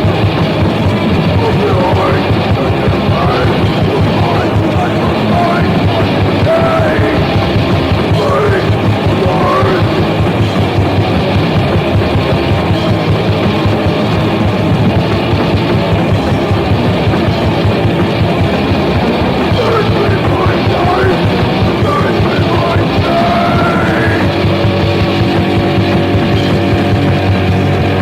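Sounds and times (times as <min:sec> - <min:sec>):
bass guitar: 0:00.0 - 0:28.0
distorted guitars: 0:00.0 - 0:28.0
punk band playing fast: 0:00.0 - 0:28.0
rapid drumming: 0:00.0 - 0:28.0.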